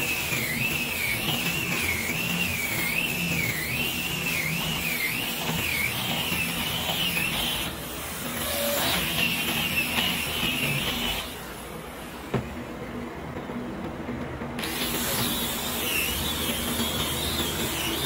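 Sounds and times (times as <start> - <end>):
angle grinder sanding wood: 0.0 - 11.4, 14.6 - 18.0.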